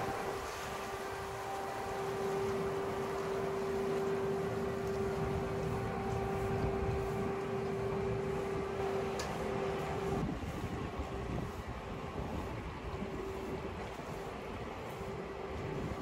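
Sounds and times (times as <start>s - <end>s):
ship machinery hum: 0.0s - 16.0s.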